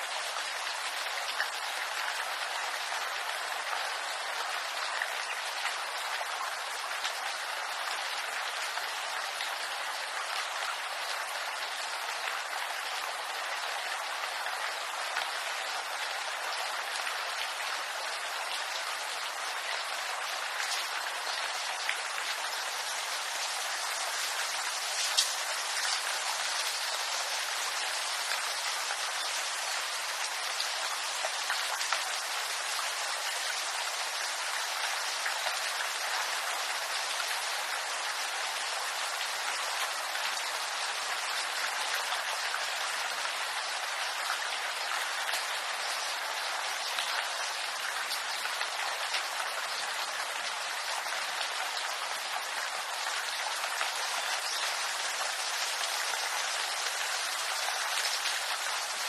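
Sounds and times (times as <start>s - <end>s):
rain on bamboo leaves: 0.0s - 59.0s.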